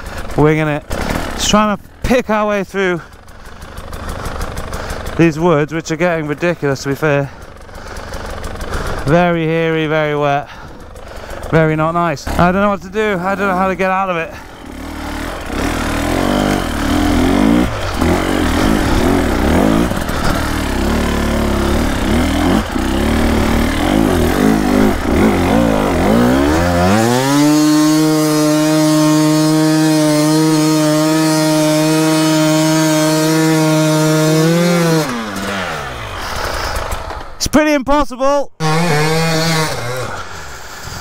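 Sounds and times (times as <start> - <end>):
dirt bike engine revving: 0.0 - 37.4, 38.6 - 41.0.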